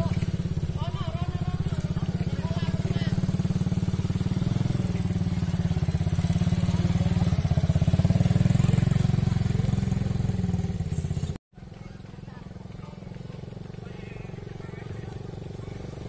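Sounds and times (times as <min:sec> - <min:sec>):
quad bike engine passing: 0:00.0 - 0:16.0.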